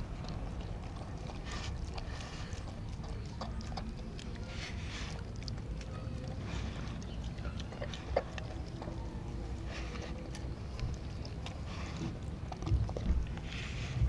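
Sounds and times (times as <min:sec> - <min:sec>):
dog chewing and crunching: 0:00.0 - 0:14.0
steady low rumble: 0:00.0 - 0:14.0.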